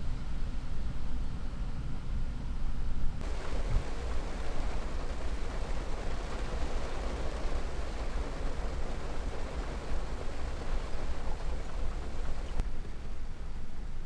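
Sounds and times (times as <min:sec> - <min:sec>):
steady rain hiss: 0:01.8 - 0:14.0.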